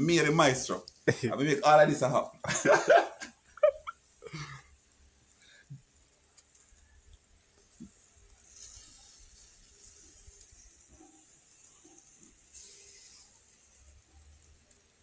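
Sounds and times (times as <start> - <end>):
chicken sizzling on a grill: 0.0 - 15.0.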